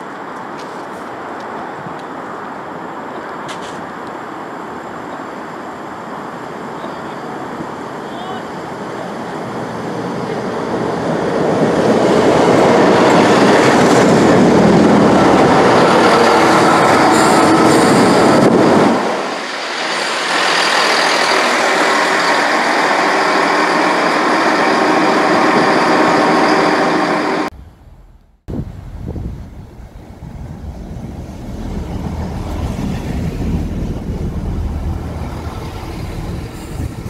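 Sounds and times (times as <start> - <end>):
train passing: 0.0 - 37.0.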